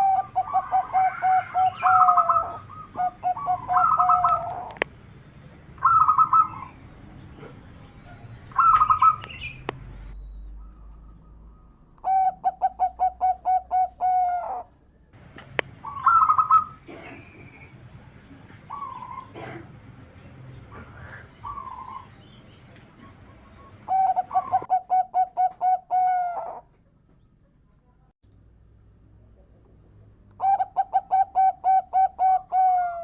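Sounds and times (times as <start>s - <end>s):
dove cooing: 0.0s - 4.8s, 5.8s - 9.6s, 10.6s - 14.8s, 15.5s - 26.7s, 30.4s - 33.0s.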